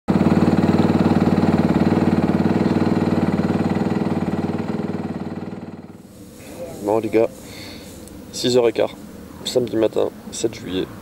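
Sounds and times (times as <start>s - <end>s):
motorcycle engine idling: 0.1s - 10.5s.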